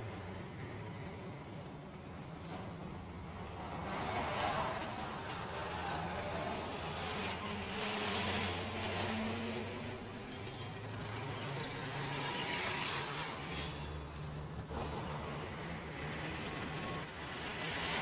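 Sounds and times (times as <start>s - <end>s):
vehicle engines humming: 0.0s - 18.0s
vehicles passing: 0.0s - 18.0s.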